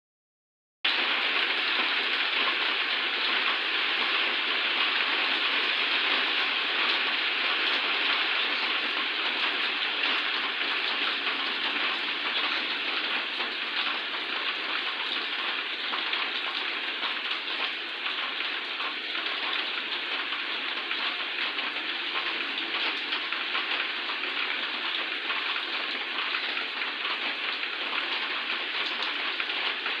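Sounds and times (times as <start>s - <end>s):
steady rain falling: 0.9s - 30.0s.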